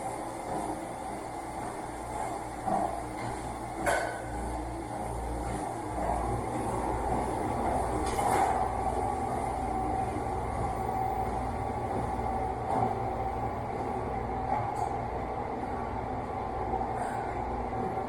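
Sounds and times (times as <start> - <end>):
machine rumble and whine: 0.0 - 18.0.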